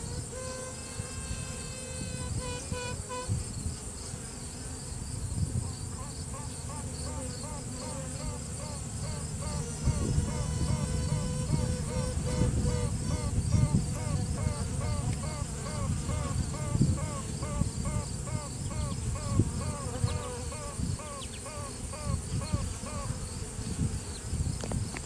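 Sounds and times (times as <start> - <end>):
bee colony humming: 0.0 - 25.0
queen bee piping: 0.0 - 25.0.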